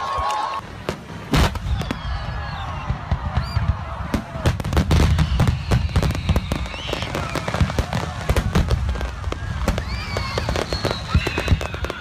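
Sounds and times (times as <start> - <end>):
fireworks bangs and crackles: 0.2 - 12.0.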